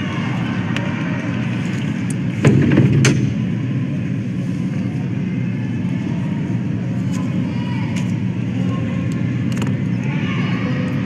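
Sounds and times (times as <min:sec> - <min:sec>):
crowd voices rumbling: 0:00.0 - 0:11.0.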